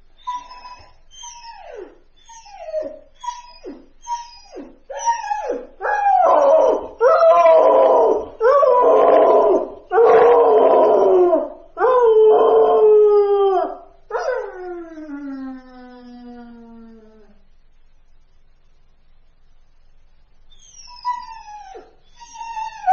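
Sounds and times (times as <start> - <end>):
puppy whining and howling: 0.2 - 17.4, 20.5 - 22.9.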